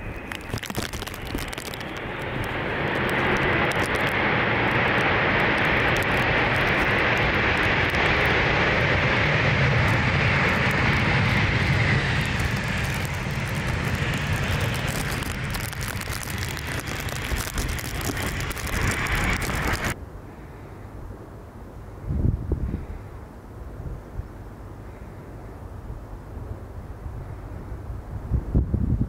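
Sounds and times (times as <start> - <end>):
jet engine noise: 0.0 - 29.0.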